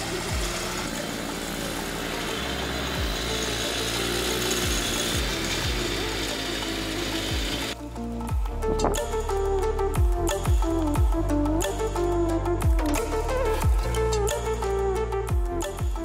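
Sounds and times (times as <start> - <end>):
music with a steady beat: 0.0 - 0.8, 3.0 - 3.5, 4.3 - 16.0
motorcycle engine running steadily: 0.0 - 11.9, 12.6 - 14.6.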